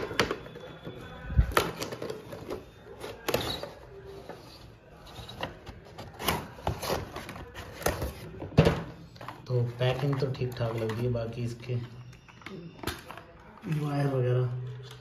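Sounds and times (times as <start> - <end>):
cardboard and plastic rustling: 0.0 - 15.0.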